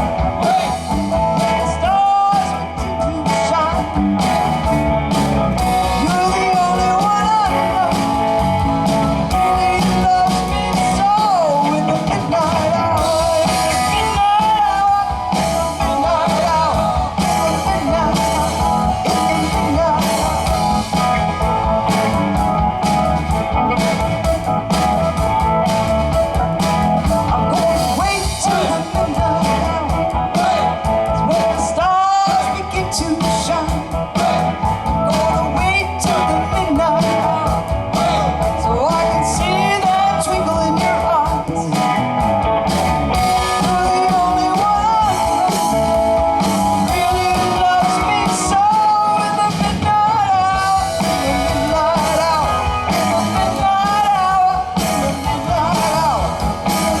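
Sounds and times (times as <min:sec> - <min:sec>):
person singing: 0:00.0 - 0:42.3, 0:43.1 - 0:57.0
rock band playing: 0:00.0 - 0:57.0.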